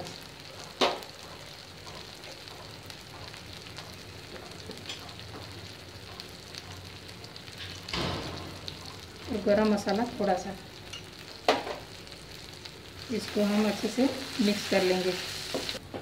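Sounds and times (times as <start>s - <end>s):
masala sizzling in oil: 0.0s - 15.8s.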